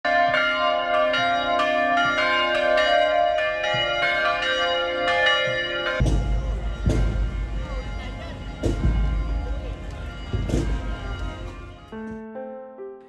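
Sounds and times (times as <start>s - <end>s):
church bells pealing: 0.1s - 12.6s.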